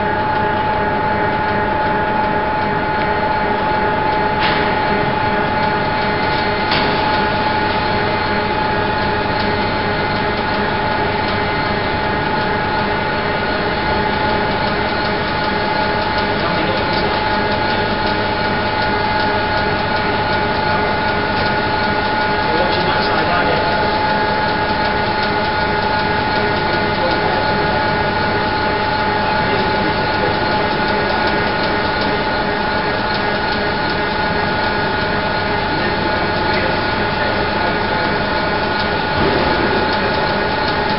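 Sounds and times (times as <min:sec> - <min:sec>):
machinery drone with high whine: 0:00.0 - 0:40.9.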